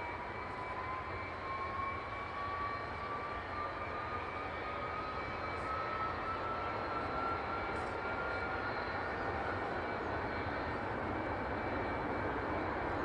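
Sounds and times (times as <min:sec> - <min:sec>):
jet engine idling whine: 0:00.0 - 0:13.0.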